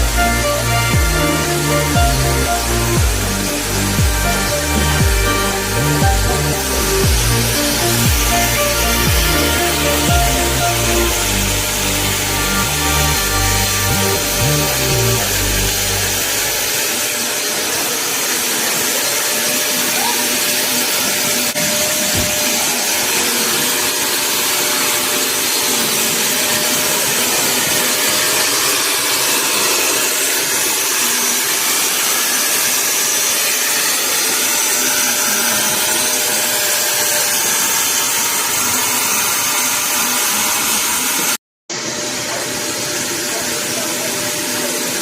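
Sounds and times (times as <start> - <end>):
power tool high whir: 0.0 - 45.0.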